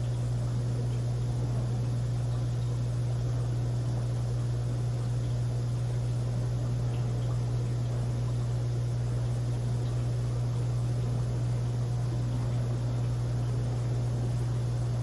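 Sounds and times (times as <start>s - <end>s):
aquarium equipment humming: 0.0s - 15.0s.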